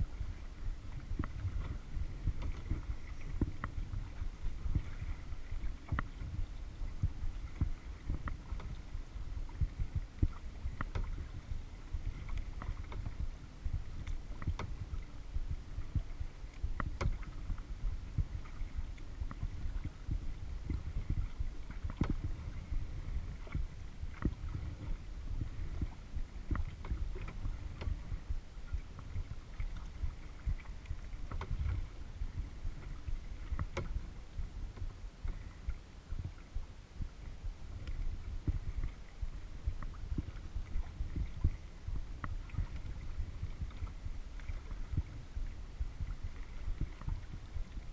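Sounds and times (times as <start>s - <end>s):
paddle splashing in water: 0.0s - 36.6s, 37.2s - 47.9s
steady low rumble: 0.0s - 47.9s.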